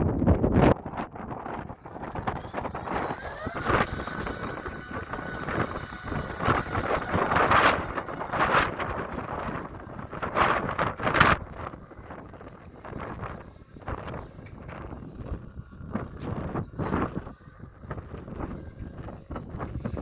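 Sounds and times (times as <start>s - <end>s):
electric fan motors whining: 0.0s - 20.0s
wind buffeting microphone: 0.0s - 20.0s.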